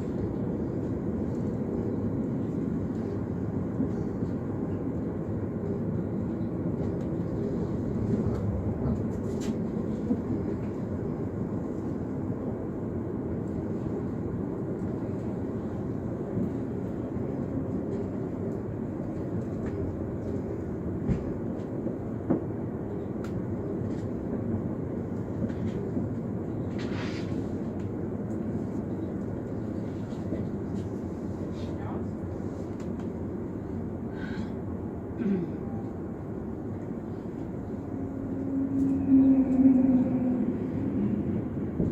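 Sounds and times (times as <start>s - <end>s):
passenger train rumble: 0.0s - 41.9s.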